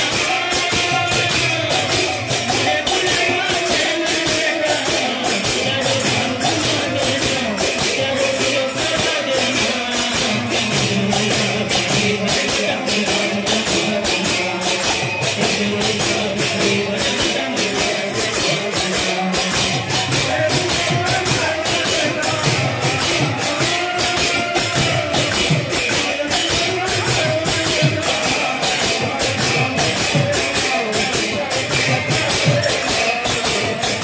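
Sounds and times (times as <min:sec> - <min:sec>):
cymbals clashing: 0:00.0 - 0:34.0
hand drums beaten fast: 0:00.0 - 0:34.0.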